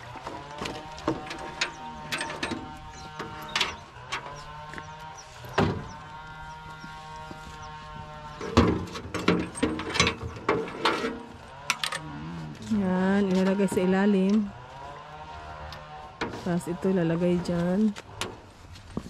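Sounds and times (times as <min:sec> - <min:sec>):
steady humming tone: 0:00.0 - 0:18.6.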